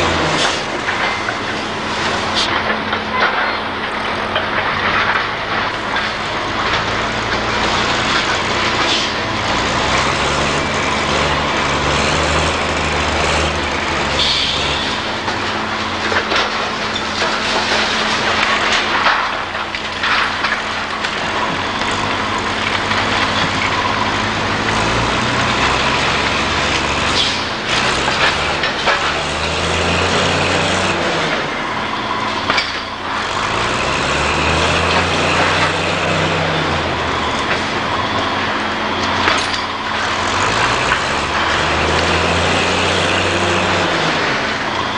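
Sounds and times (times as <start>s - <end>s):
debris cracking and crunching: 0.0s - 44.9s
diesel engine revving: 0.0s - 44.9s.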